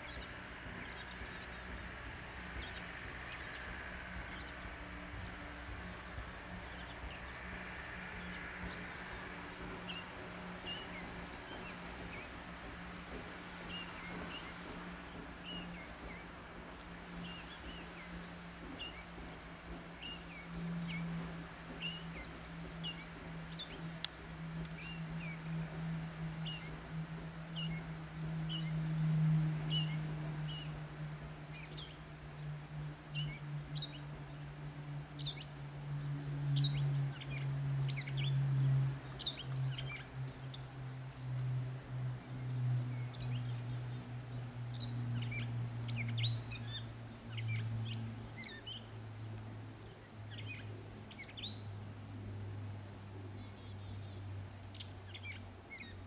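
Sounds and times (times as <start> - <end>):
small birds chirping: 0.0 - 51.9, 53.1 - 56.0
steady low hum: 0.0 - 56.0.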